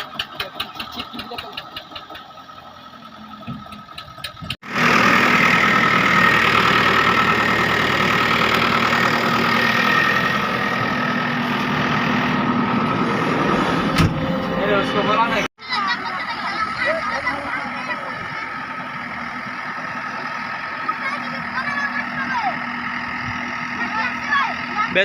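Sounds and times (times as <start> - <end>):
diesel engine idling: 0.0 - 25.0
engine running hard with whine: 3.0 - 25.0.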